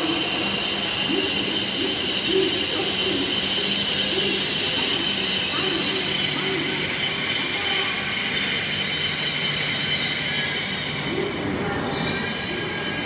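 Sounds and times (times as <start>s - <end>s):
high-pitched whine: 0.0s - 13.0s
train braking to a stop: 0.0s - 13.0s.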